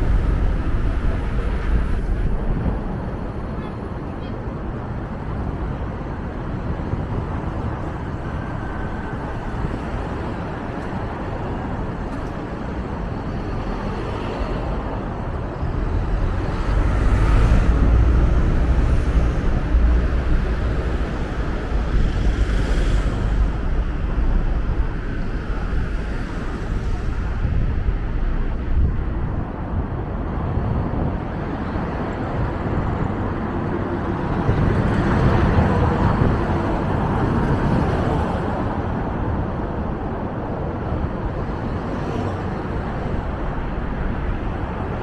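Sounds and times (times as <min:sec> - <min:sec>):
passing cars: 0:00.0 - 0:45.0.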